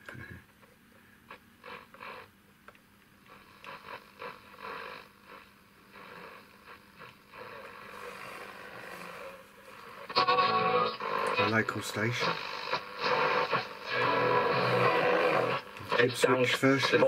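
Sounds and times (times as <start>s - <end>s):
faint steady hum: 0.0s - 17.0s
radio signal snatches: 1.3s - 2.3s, 3.3s - 17.0s
radio static and crackle: 1.3s - 2.3s, 3.2s - 17.0s.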